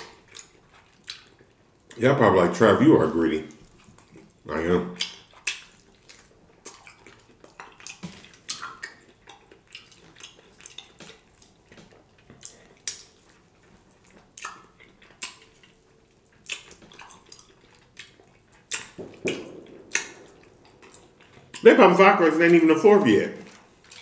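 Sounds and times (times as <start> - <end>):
wet chewing and lip smacking: 0.0 - 2.1, 3.5 - 21.7, 23.4 - 24.0.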